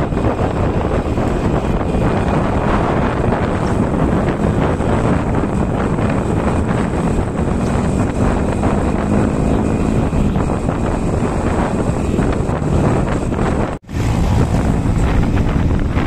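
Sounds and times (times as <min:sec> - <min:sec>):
engine and road noise: 0:00.0 - 0:16.0
low hum: 0:00.0 - 0:16.0
wind buffeting microphone: 0:00.0 - 0:16.0.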